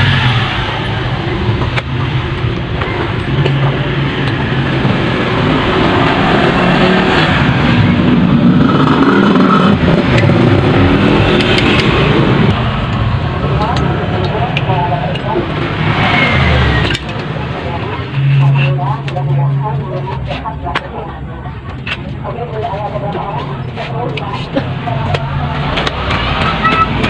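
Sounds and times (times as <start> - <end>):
vehicle engines revving: 0.0 - 27.0.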